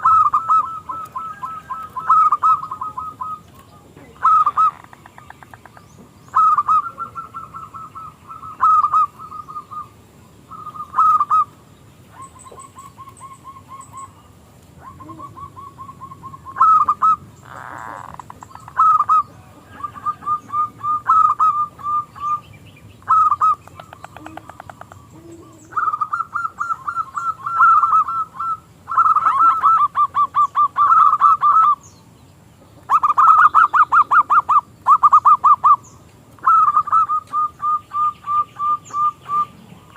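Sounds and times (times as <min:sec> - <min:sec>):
dove cooing: 0:00.0 - 0:31.8, 0:32.6 - 0:39.9.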